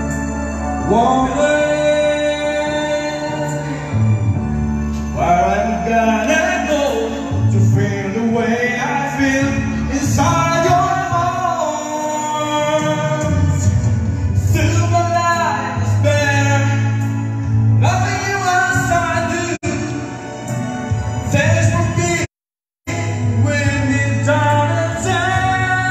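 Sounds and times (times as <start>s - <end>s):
music backing track: 0.0s - 25.9s
person singing: 0.0s - 25.9s.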